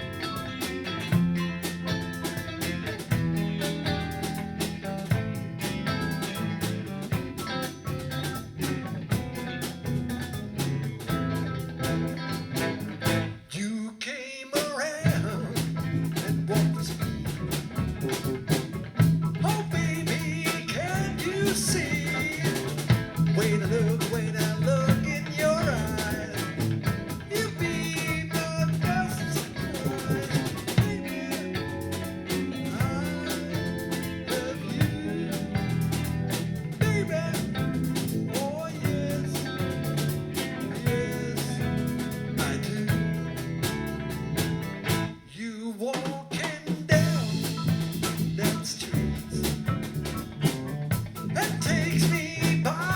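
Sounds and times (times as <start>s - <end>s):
drum kit: 0.0s - 13.5s, 14.6s - 52.9s
bass guitar: 0.0s - 13.6s, 15.0s - 45.4s, 46.4s - 52.9s
electric guitar: 0.0s - 13.6s, 15.0s - 45.4s, 46.4s - 52.9s.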